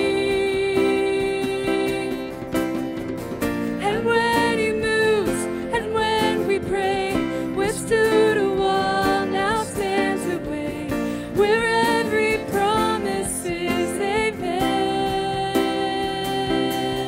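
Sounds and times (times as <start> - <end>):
woman singing: 0.0 - 2.8, 3.8 - 17.0
acoustic guitar: 0.0 - 17.0
piano: 0.0 - 17.0.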